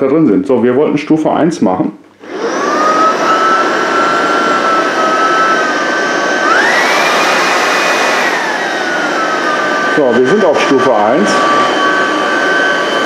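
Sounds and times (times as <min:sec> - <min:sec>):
stick vacuum motor whine: 0:02.2 - 0:13.0.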